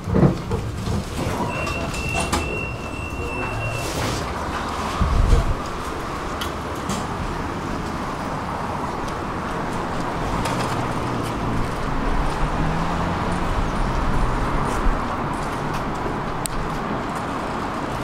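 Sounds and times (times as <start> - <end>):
street traffic hum: 0.0 - 18.0
car passing: 2.2 - 18.0.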